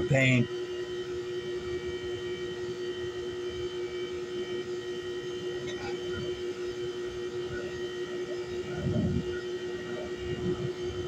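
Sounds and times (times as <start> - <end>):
heat pump units humming: 0.0 - 11.0.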